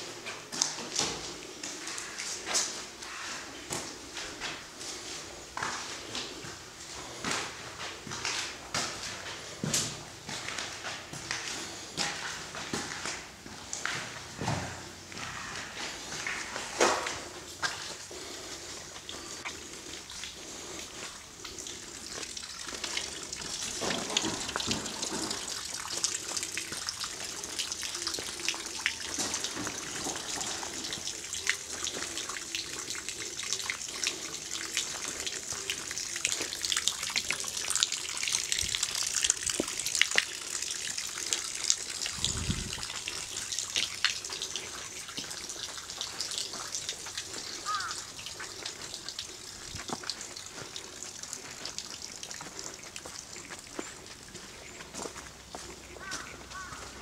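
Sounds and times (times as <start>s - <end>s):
running water splashing: 0.0s - 57.0s.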